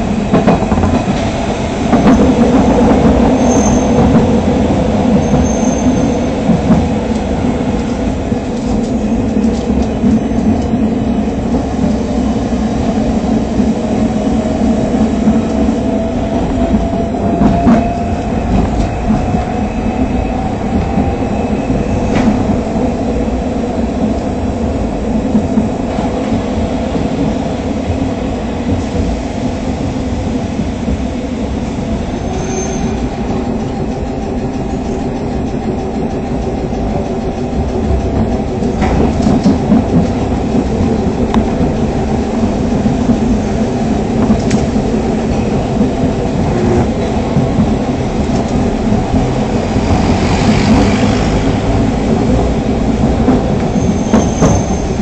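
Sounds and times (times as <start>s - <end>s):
rumble of wheels on rail: 0.0s - 55.0s.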